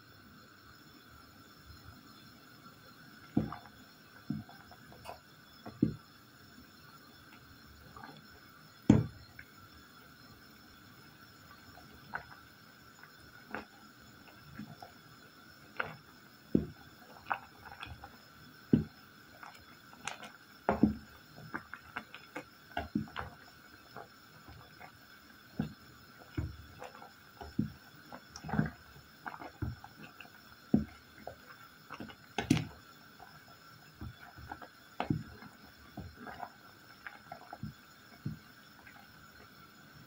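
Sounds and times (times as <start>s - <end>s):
wooden spoon stirring fruit in pot: 3.2s - 6.1s, 6.8s - 9.6s, 10.3s - 39.6s.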